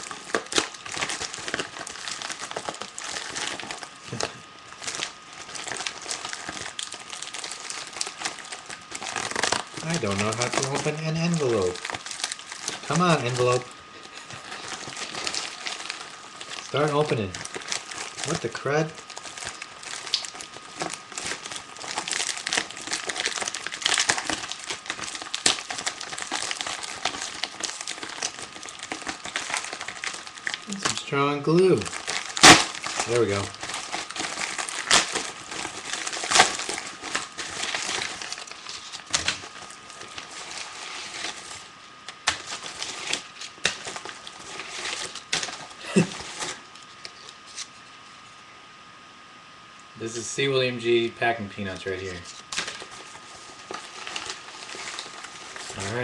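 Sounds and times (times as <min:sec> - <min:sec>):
paper envelope tearing: 0:00.0 - 0:47.8, 0:51.6 - 0:56.0
parcel packaging crinkling: 0:00.0 - 0:48.3, 0:50.8 - 0:56.0.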